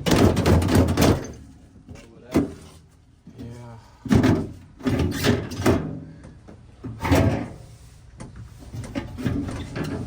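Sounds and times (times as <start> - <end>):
plastic bins scraping and clunking: 0.0 - 6.0, 6.8 - 10.0.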